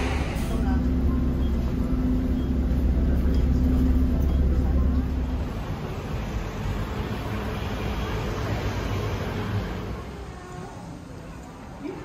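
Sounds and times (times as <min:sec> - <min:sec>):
bus engine hum: 0:00.0 - 0:12.0
street traffic noise: 0:00.0 - 0:12.0.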